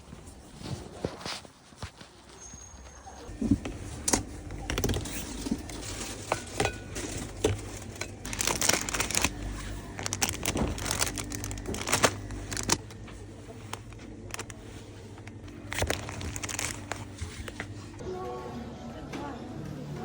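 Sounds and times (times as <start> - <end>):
crinkling and rustling: 0.0 - 18.0.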